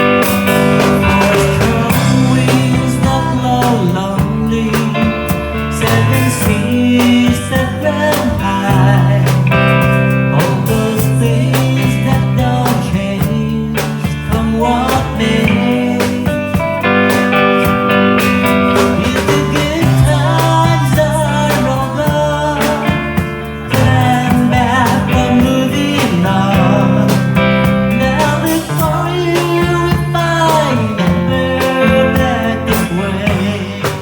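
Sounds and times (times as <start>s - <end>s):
band playing country-folk song: 0.0s - 34.0s
guitars: 0.0s - 34.0s.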